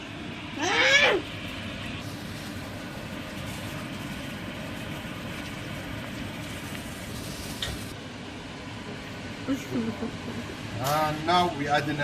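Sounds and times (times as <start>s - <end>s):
kitchen extractor fan running: 0.0s - 12.0s.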